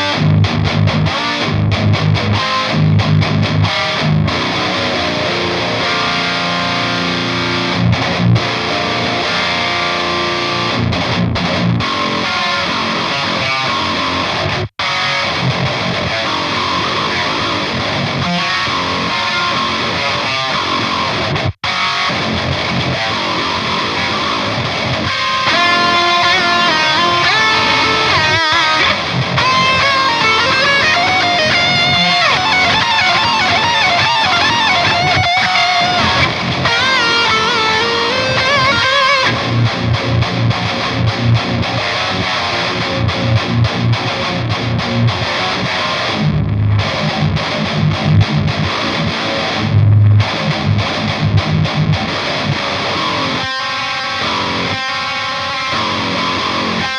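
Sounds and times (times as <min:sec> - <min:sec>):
distorted electric guitar metal: 0:00.0 - 0:56.9.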